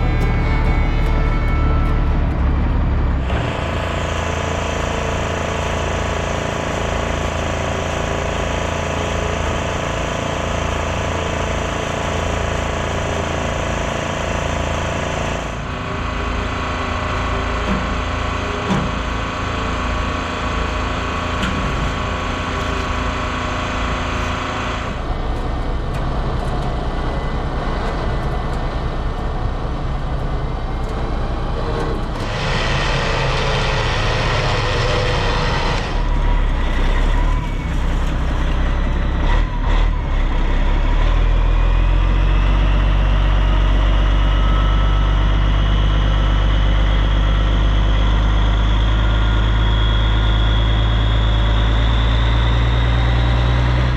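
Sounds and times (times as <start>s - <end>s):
road noise: 0.0s - 53.9s
truck engine running: 0.0s - 53.9s.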